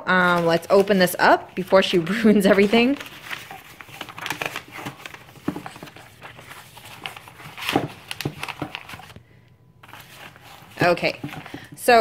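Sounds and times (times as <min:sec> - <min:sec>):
paper and cardboard rustling: 0:00.0 - 0:09.2, 0:09.8 - 0:12.0.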